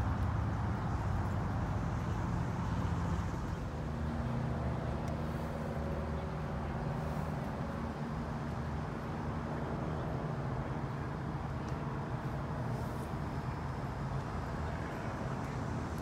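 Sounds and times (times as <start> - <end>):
engine hum: 0.0 - 16.0
road traffic rumble: 0.0 - 16.0.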